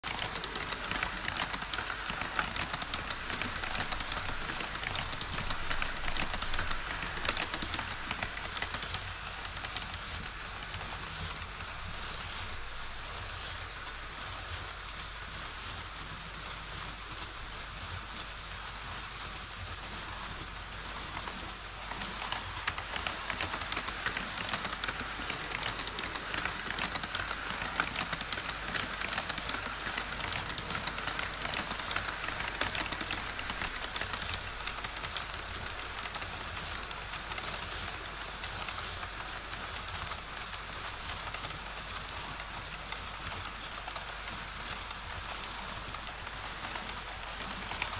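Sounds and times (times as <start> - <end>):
model train wheels clattering on rails: 0.0 - 47.9.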